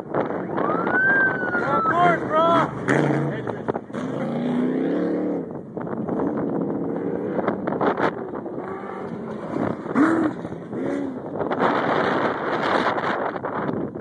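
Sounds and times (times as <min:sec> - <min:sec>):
race vehicle engines revving: 0:00.0 - 0:14.0
wind buffeting microphone: 0:00.0 - 0:14.0.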